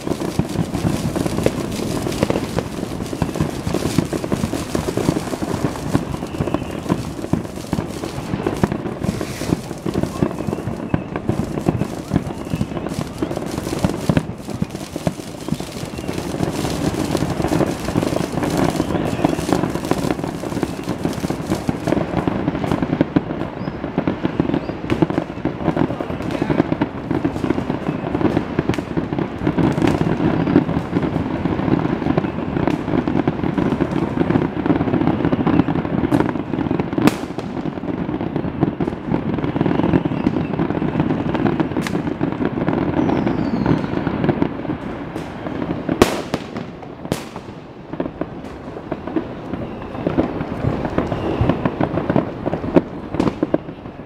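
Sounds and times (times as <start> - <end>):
firework crackling: 0.0 - 54.0
fireworks bursting: 0.0 - 54.0
sharp firework cracks: 0.0 - 54.0.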